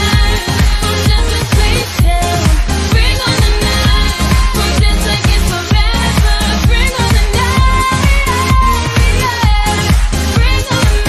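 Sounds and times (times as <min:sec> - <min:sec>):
upbeat dance-pop music: 0:00.0 - 0:11.0.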